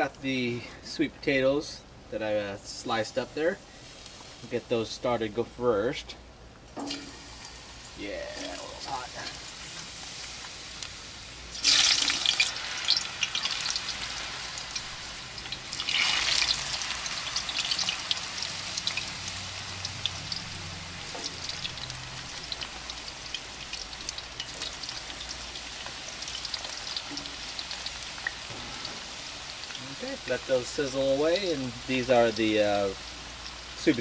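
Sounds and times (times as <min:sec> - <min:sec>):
fries sizzling in hot oil: 0:02.6 - 0:05.4, 0:06.8 - 0:34.0.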